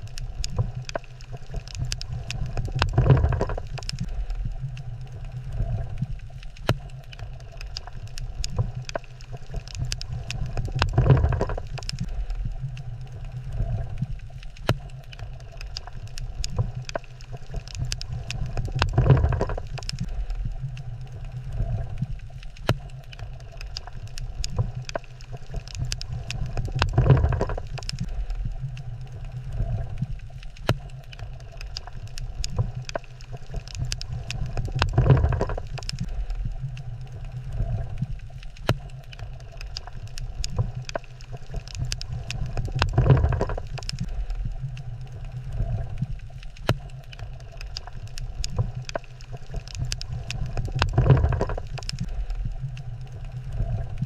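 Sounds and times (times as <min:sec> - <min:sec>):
crackling clicks: 0:00.0 - 0:54.0
underwater low rumble: 0:00.0 - 0:54.0.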